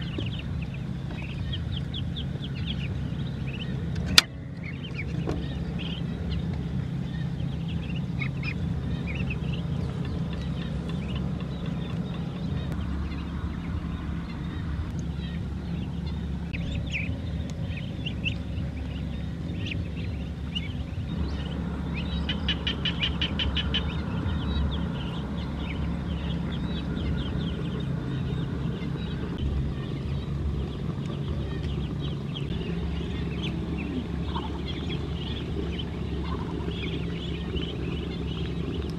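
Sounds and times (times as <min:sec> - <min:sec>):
ducklings peeping: 0:00.0 - 0:38.9
steady low rumble: 0:00.0 - 0:38.9.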